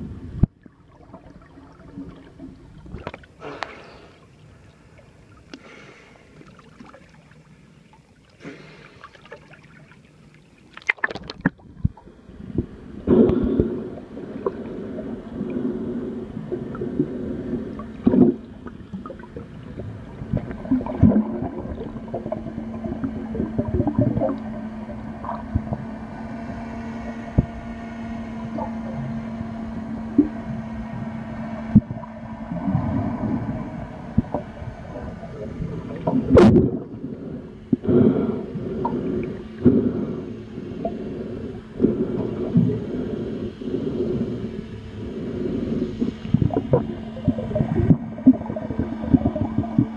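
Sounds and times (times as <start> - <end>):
steady low hum: 0.0 - 49.9
underwater water gurgling and sloshing: 0.0 - 49.9.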